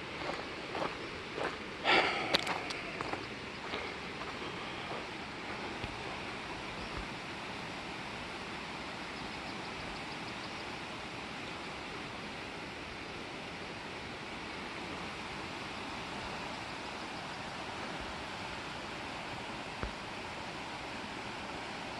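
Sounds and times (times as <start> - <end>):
river water flowing: 0.0 - 21.9.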